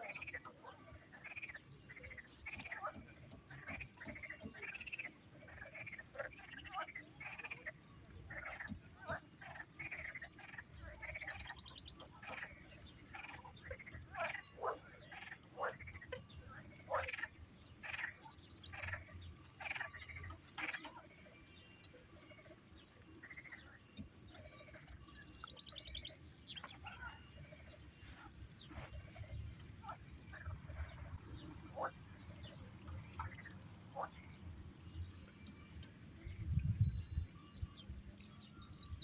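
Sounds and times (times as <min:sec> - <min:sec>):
frogs croaking: 0:00.0 - 0:36.4.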